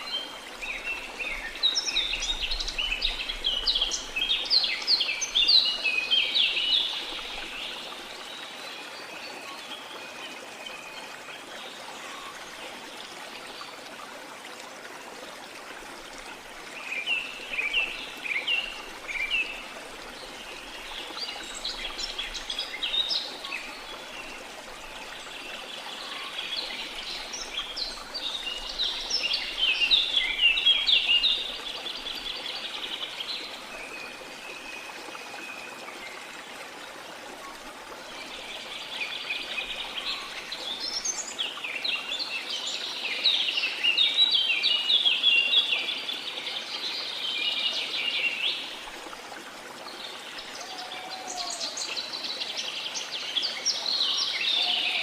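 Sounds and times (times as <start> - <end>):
forest birds chirping and trilling: 0.0 - 13.7, 16.2 - 36.4, 37.4 - 55.0.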